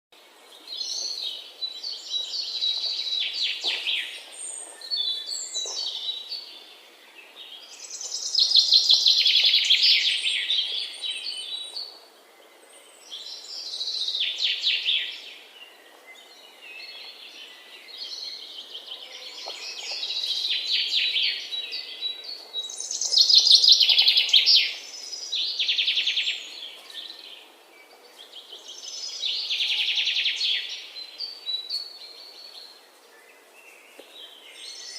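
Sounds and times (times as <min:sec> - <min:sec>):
songbird singing: 0:00.1 - 0:34.9.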